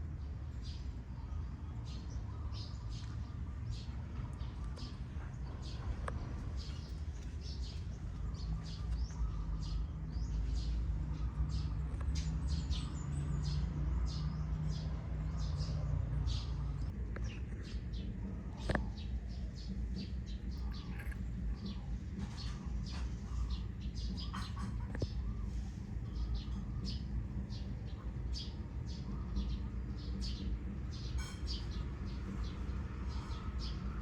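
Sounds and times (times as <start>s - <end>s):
low steady rumble: 0.0s - 34.0s
small birds chirping: 0.0s - 34.0s.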